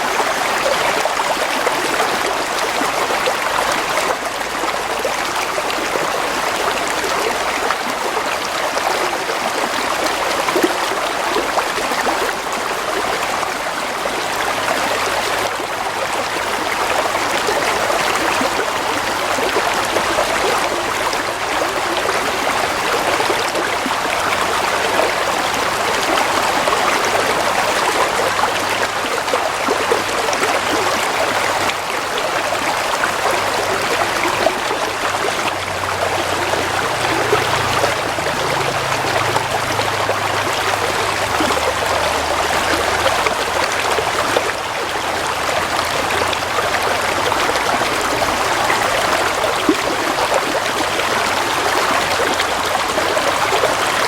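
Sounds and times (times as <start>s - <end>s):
shallow stream trickling: 0.0s - 54.0s.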